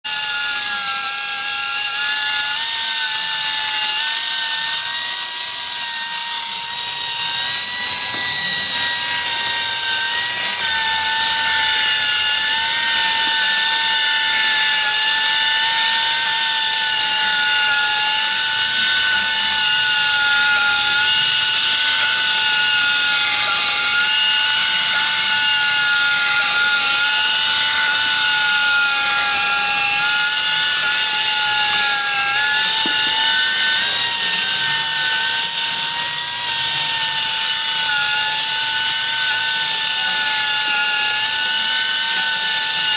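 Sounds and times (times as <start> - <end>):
machine motor whine: 0.1 - 42.9.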